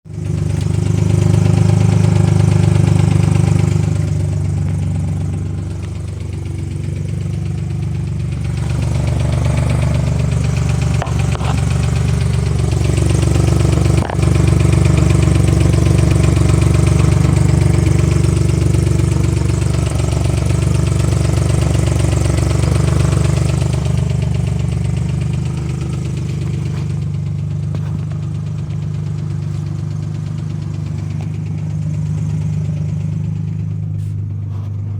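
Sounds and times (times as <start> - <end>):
car engine running: 0.0 - 34.9
engine ticking: 0.0 - 34.9.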